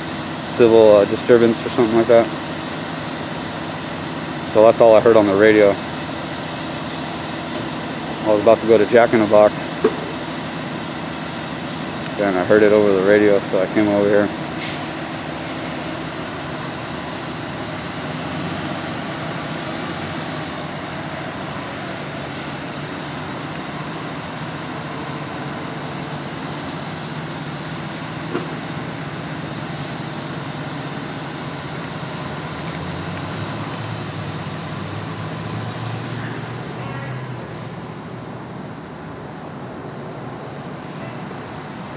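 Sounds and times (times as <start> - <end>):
diesel engines idling: 0.0 - 41.9.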